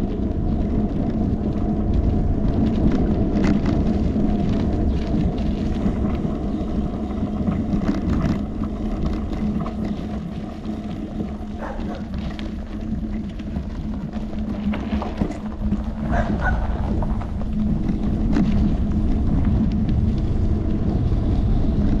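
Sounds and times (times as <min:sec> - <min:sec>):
road and tyre rumble: 0:00.0 - 0:22.0
bicycle rattling clicks: 0:00.1 - 0:22.0.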